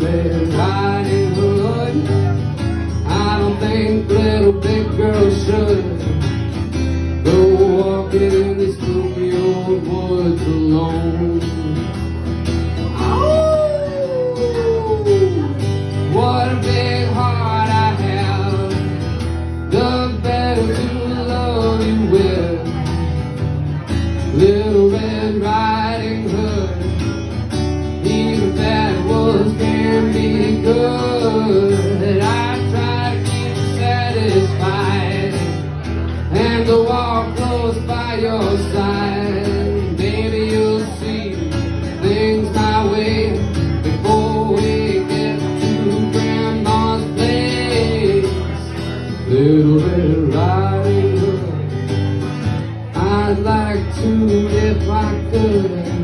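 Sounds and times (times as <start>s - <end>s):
man singing: 0.0s - 56.0s
strummed acoustic guitar: 0.0s - 56.0s.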